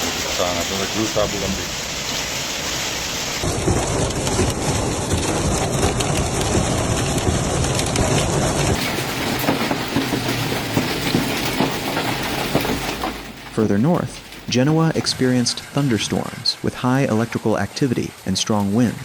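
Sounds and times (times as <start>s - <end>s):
low rumbling noise: 0.0s - 17.4s
heavy rain downpour: 0.0s - 19.0s.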